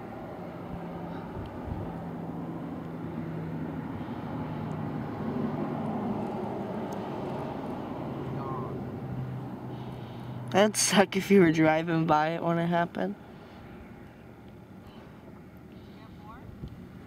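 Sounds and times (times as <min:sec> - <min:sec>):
outdoor noise: 0:00.0 - 0:17.0
vehicle engine humming: 0:00.0 - 0:17.0.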